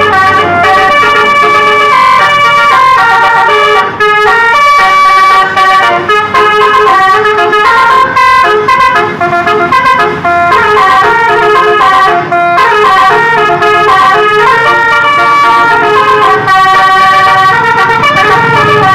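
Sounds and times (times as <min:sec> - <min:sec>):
musical bus air horn: 0:00.0 - 0:18.9.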